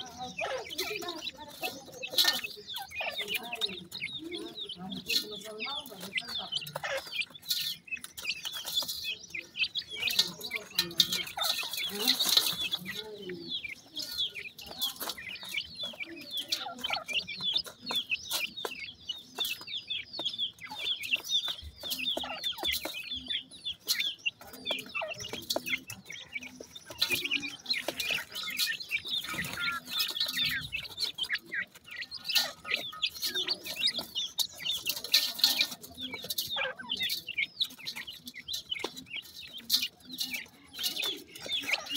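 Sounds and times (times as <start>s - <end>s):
beaks pecking at gritty feed: 0.0s - 41.9s
chicks peeping and chirping: 0.0s - 41.9s.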